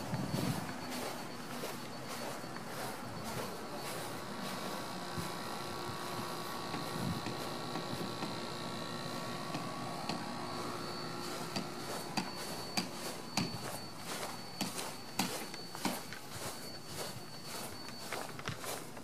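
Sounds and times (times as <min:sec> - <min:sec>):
footsteps on lawn and pavers: 0:00.0 - 0:19.0
steady hum with high whine: 0:00.0 - 0:19.0.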